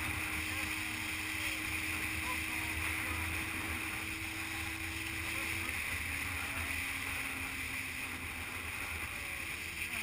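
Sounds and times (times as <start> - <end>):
motorcycle engine drone: 0.0 - 10.0.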